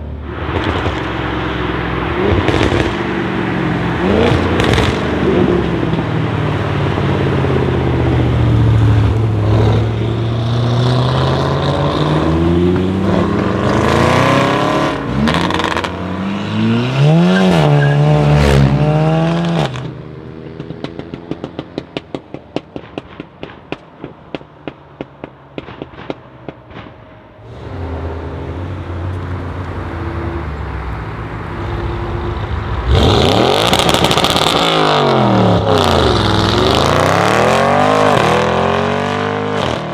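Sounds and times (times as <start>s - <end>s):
car engine revving and accelerating: 0.0s - 22.3s, 27.4s - 39.9s
exhaust pops and crackles: 0.0s - 39.9s.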